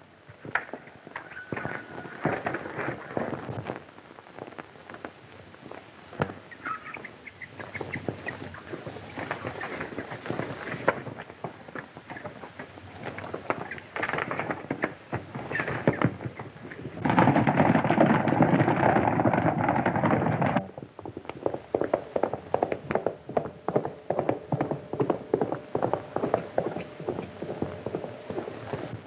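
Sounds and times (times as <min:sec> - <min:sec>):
horse hooves galloping on dirt: 0:00.0 - 0:29.0.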